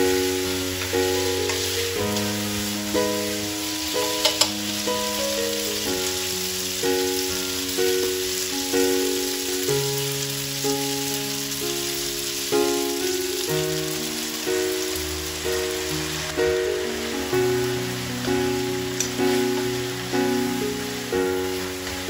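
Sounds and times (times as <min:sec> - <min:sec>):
background music with held chords: 0:00.0 - 0:22.0
spaghetti sizzling in frying pan: 0:00.0 - 0:22.0.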